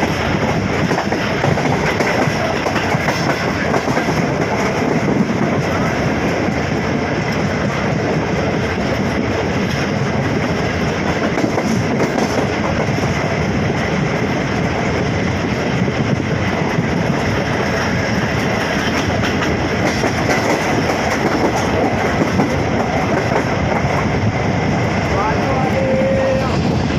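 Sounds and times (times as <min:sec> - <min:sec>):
train rolling on track: 0:00.0 - 0:26.9.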